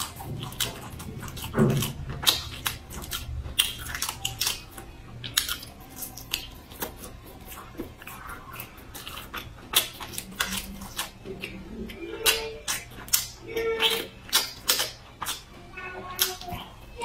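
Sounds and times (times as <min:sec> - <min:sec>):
wet chewing and mouth smacks: 0:00.0 - 0:16.8.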